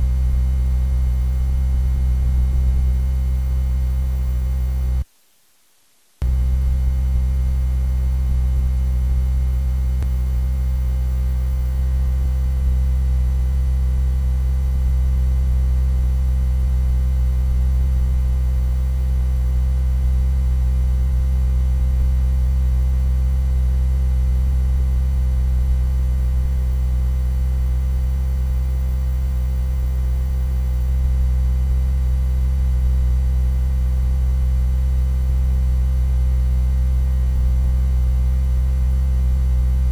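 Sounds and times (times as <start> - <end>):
loud steady low hum: 0.0 - 5.1, 6.2 - 39.9.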